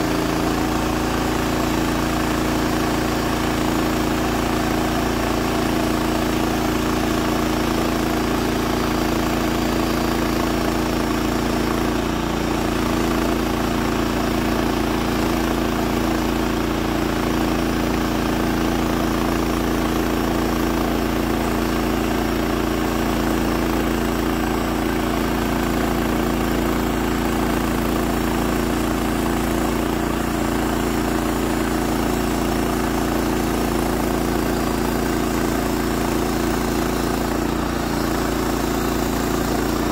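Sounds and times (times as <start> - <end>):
sawmill engine running under load: 0.0 - 39.9.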